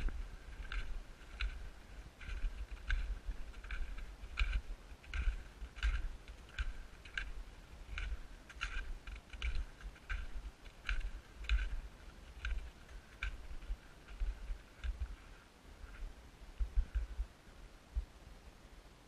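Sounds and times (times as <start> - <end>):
footsteps crunching in snow: 0.0 - 17.2.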